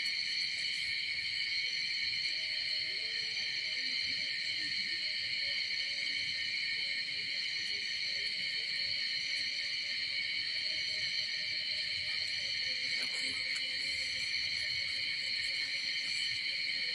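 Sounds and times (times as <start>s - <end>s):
insect chorus buzzing: 0.0s - 16.9s.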